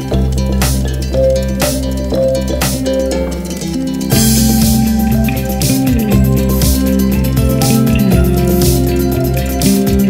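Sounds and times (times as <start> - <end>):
background music with a beat: 0.0 - 10.0.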